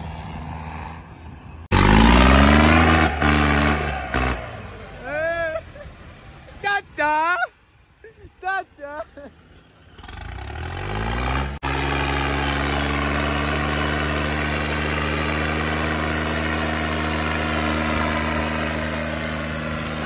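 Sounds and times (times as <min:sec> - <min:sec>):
tractor diesel engine revving: 0:00.0 - 0:07.2, 0:09.5 - 0:20.0.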